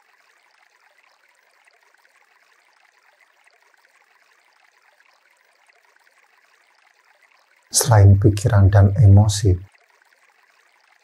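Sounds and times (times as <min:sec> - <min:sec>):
faint flowing stream: 0:00.0 - 0:11.0.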